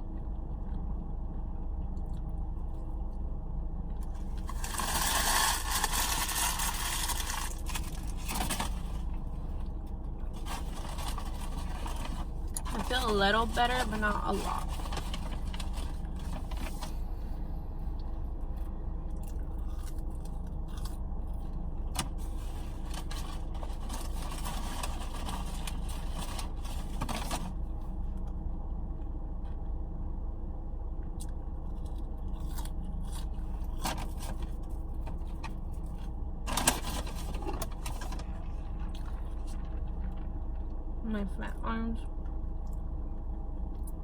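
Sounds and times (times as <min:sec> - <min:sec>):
car idling hum: 0:00.0 - 0:44.0.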